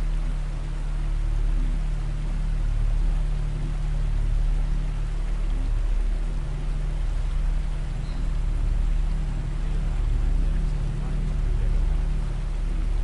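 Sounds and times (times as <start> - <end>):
deep low drone: 0.0 - 13.0
steady hiss: 0.0 - 13.0.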